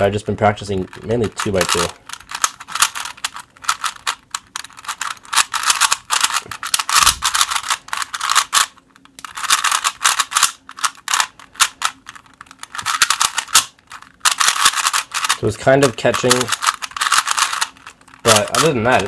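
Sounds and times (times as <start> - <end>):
puzzle cube plastic clicking: 0.8 - 19.0.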